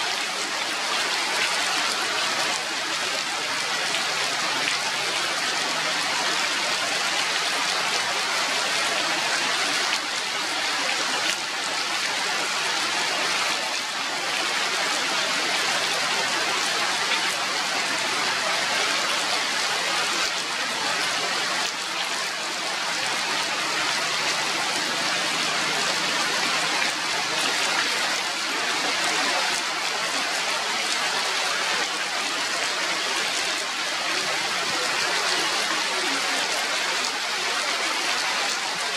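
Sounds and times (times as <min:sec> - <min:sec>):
rain falling on foliage: 0:00.0 - 0:38.9.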